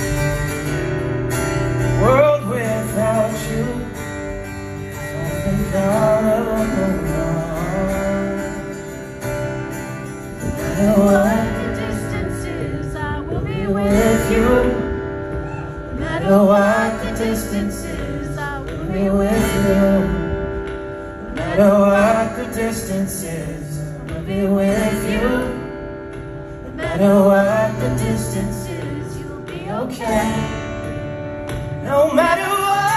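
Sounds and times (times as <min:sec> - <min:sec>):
acoustic guitar strumming: 0:00.0 - 0:32.9
man singing: 0:01.9 - 0:04.4, 0:05.0 - 0:09.2, 0:10.3 - 0:25.8, 0:26.5 - 0:30.6, 0:31.8 - 0:32.9.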